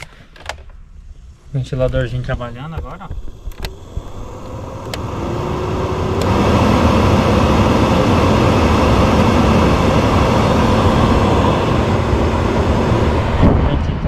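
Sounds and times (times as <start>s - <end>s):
cooling fan rushing air: 1.0s - 14.0s.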